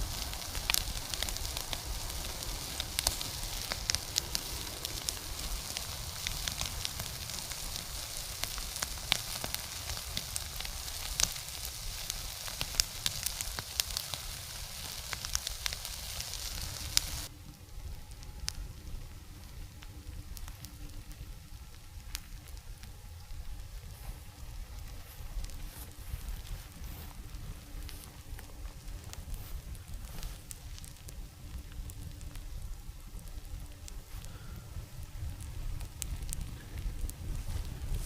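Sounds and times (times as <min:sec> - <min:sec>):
fire sizzling and crackling: 0:00.0 - 0:38.0
quiet background noise: 0:00.0 - 0:38.0.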